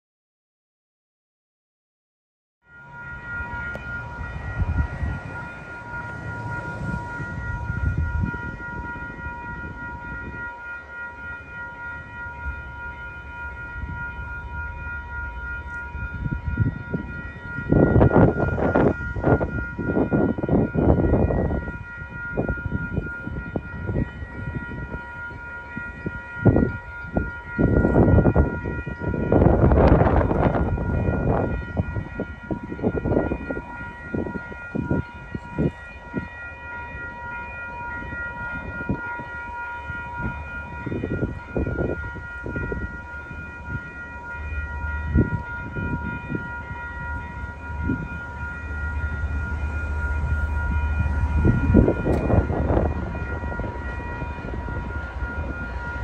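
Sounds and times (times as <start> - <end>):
crossing warning bells ringing: 2.6 - 56.0
train rumble: 2.7 - 56.0.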